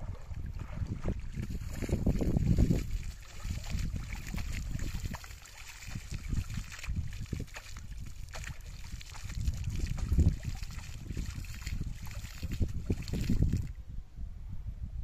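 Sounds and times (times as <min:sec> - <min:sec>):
water splashing in a pond: 0:00.0 - 0:13.8
wind rumble on microphone: 0:00.0 - 0:15.0.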